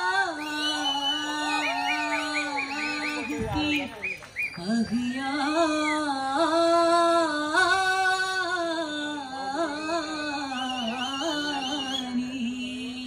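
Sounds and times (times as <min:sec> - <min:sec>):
person singing slow melody: 0:00.0 - 0:04.0, 0:04.6 - 0:13.0.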